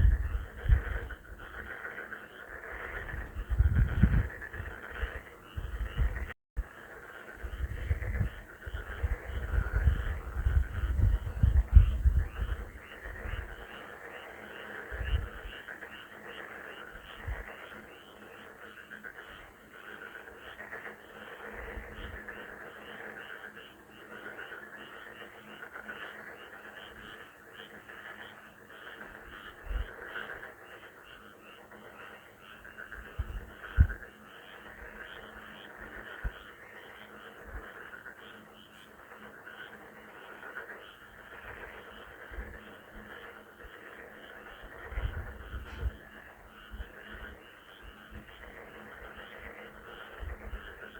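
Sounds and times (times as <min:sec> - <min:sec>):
frogs croaking: 0:00.0 - 0:50.9
short high frog calls: 0:00.0 - 0:50.9.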